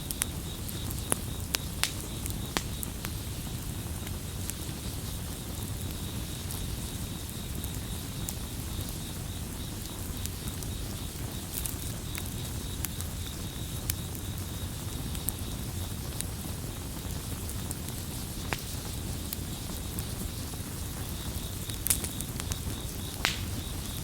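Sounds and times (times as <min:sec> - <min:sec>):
campfire crackling and popping: 0:00.0 - 0:24.0
cricket trill: 0:00.0 - 0:24.0
low rumble of burning wood: 0:00.0 - 0:24.0.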